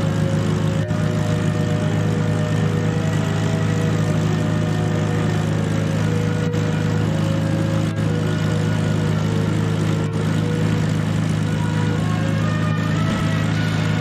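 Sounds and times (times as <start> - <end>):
propeller plane engine running: 0.0 - 14.0.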